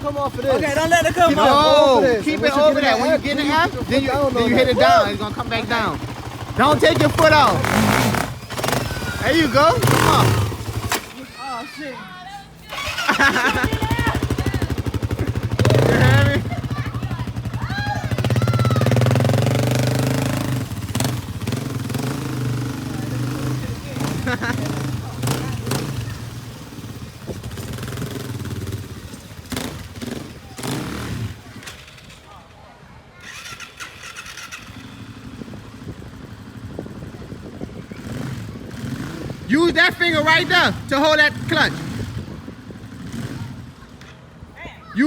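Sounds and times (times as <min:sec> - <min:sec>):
atv engine revving: 0:00.0 - 0:11.5, 0:12.6 - 0:32.6, 0:33.2 - 0:44.4.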